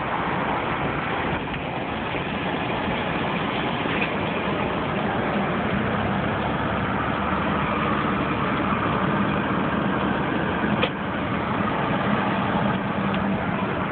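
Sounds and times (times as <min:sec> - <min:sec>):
car interior road noise: 0:00.0 - 0:13.9.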